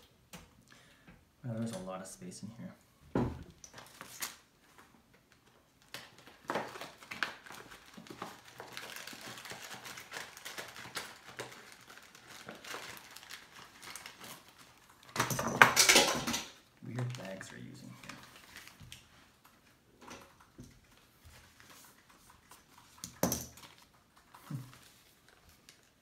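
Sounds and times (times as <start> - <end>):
plastic packaging crinkling: 3.6 - 26.0.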